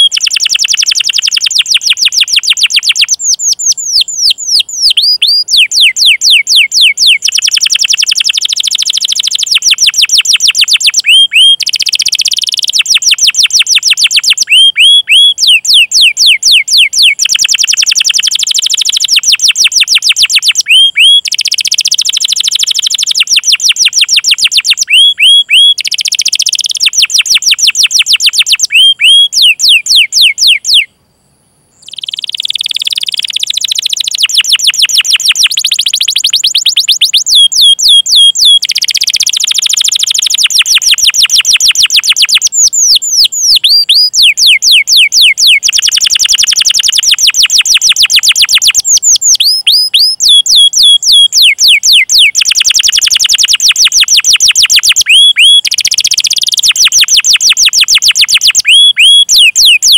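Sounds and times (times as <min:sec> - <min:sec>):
canary chirps: 0:00.0 - 0:30.9, 0:31.7 - 0:59.9
canary singing trills: 0:00.0 - 0:31.0, 0:31.7 - 0:59.9.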